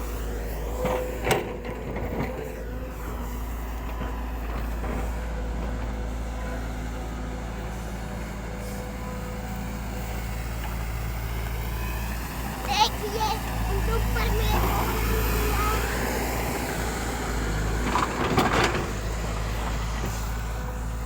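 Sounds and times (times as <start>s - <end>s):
diesel engine rumble: 0.0s - 21.0s.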